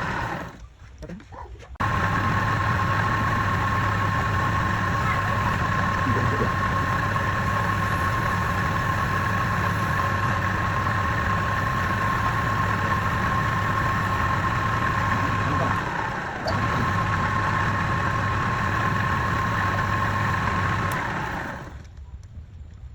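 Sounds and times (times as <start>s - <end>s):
lathe motor humming: 0.0s - 0.6s, 1.8s - 21.8s.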